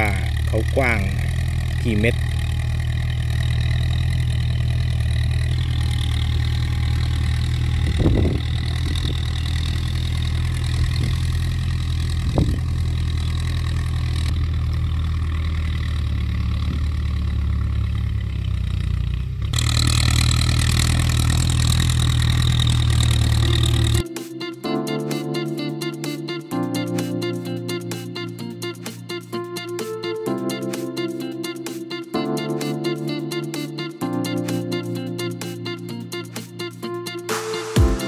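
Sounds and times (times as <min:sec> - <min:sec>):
tractor diesel engine running: 0:00.0 - 0:31.8.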